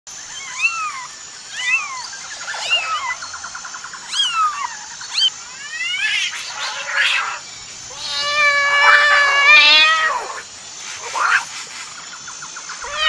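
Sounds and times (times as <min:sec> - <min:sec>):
kittens mewing: 0:00.3 - 0:03.2, 0:04.0 - 0:11.8, 0:12.8 - 0:13.0.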